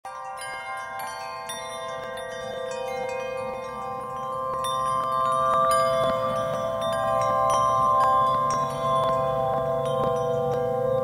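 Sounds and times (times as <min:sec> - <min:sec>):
sustained chime-like tones: 0:00.1 - 0:11.0.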